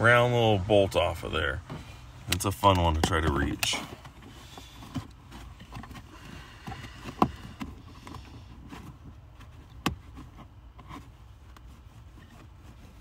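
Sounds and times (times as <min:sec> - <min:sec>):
hands rustling under dashboard: 0:00.0 - 0:13.0.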